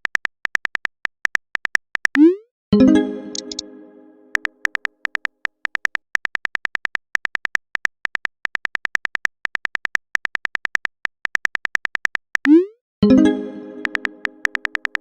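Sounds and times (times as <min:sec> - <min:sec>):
phone keyboard typing clicks: 0:00.0 - 0:02.3, 0:03.3 - 0:03.6, 0:04.3 - 0:12.6, 0:13.8 - 0:15.0.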